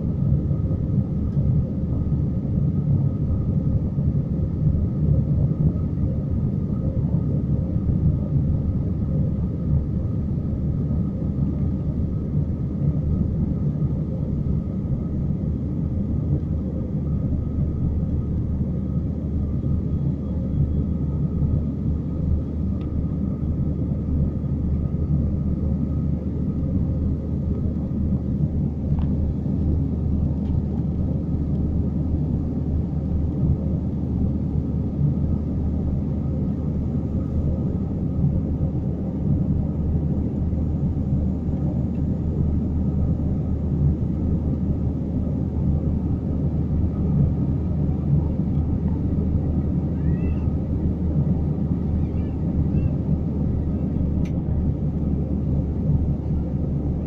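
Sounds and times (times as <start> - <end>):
faint steady whine: 0.0 - 57.0
jet engine rumble: 0.0 - 57.0.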